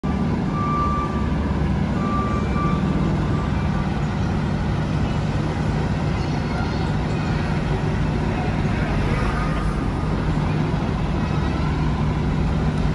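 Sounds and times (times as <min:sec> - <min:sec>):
diesel engine rumbling: 0:00.0 - 0:12.9.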